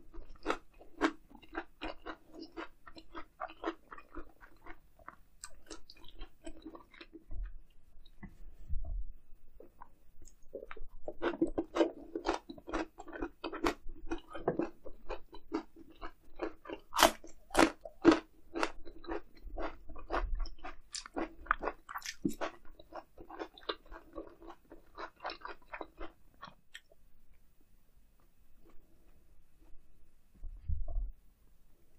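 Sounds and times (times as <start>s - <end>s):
crunchy chewing: 0.1s - 8.4s, 9.6s - 27.0s.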